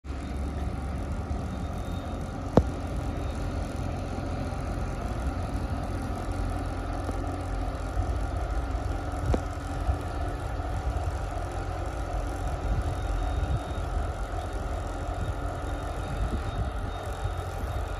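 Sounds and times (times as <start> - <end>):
truck engine idling: 0.1 - 17.9.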